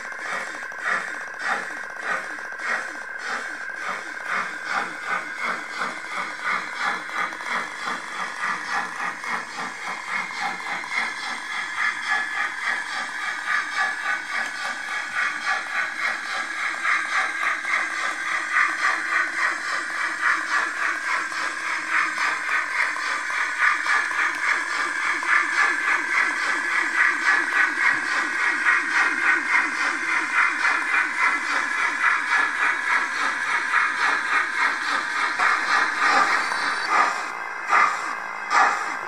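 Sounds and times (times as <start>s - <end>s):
model locomotive steam chuffs: 0.0s - 39.0s.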